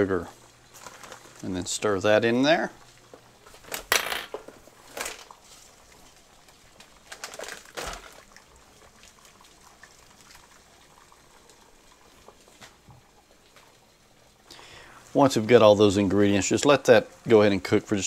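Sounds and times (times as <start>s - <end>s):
sauce bubbling: 0.0s - 3.6s, 4.4s - 18.0s.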